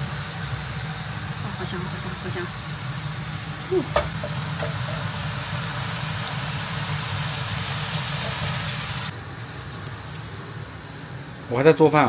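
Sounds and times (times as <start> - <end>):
extractor fan humming: 0.0 - 12.0
food frying hiss: 0.0 - 12.0.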